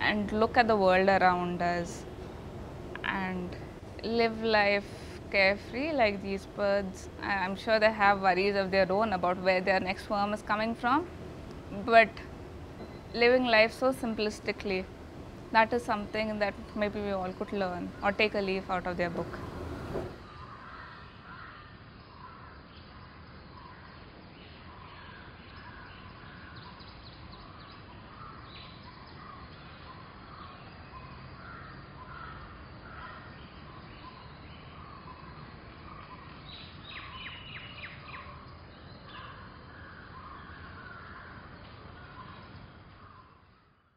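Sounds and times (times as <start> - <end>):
steady background noise: 0.0 - 43.8
birds chirping: 0.0 - 43.9.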